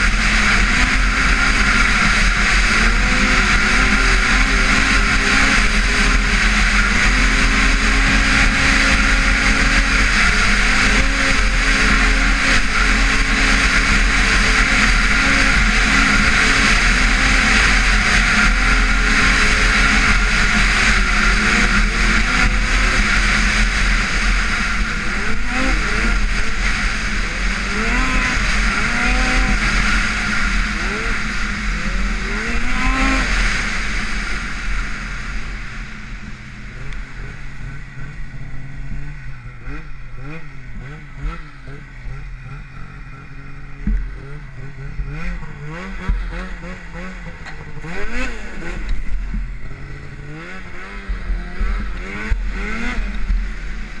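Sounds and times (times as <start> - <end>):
loud rushing noise: 0.0 - 54.0
snowmobile engine revving: 0.0 - 54.0.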